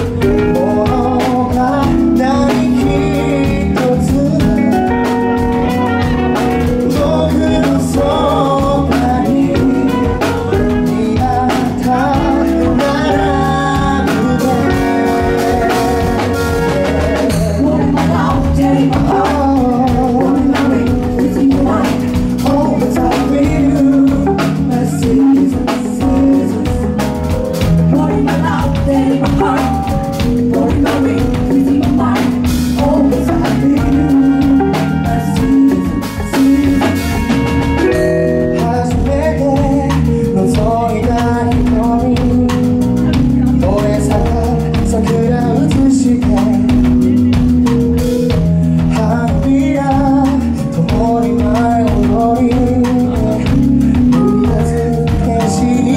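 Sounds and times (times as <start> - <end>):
drum kit: 0.0 - 55.9
electric guitar: 0.0 - 55.9
man singing lead: 0.0 - 55.9.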